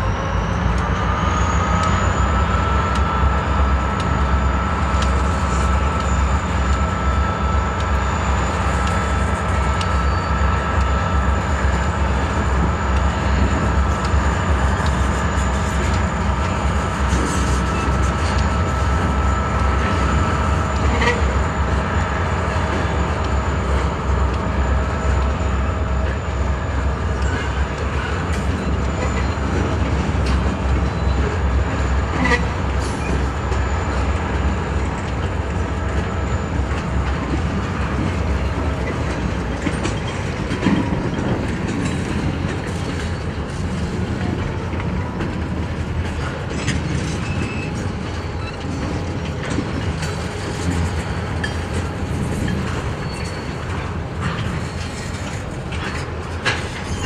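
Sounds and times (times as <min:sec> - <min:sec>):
steel wheels rumbling on track: 0:00.0 - 0:57.0.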